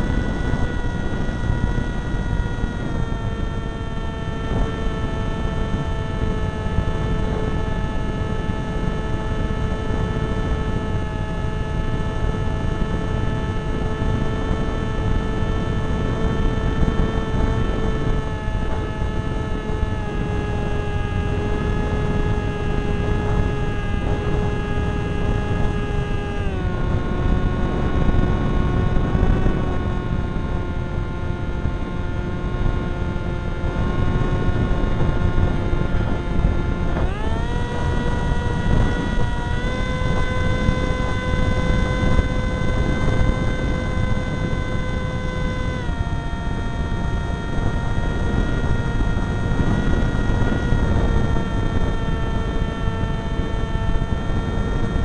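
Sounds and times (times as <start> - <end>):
model aircraft motor whine: 0.0 - 55.0
wind on microphone: 0.0 - 55.0.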